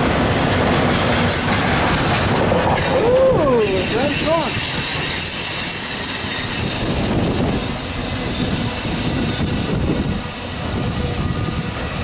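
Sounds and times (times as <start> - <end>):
freight train rolling past: 0.0 - 12.0
steel wheels on rails: 0.0 - 12.0.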